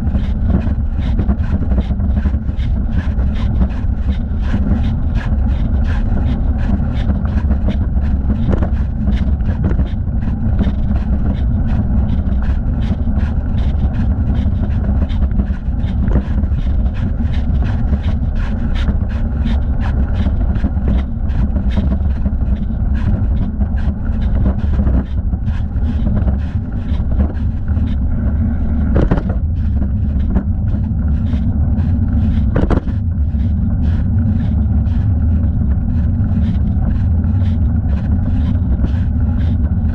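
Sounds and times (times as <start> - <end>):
wind and tyres rumbling: 0.0 - 39.9.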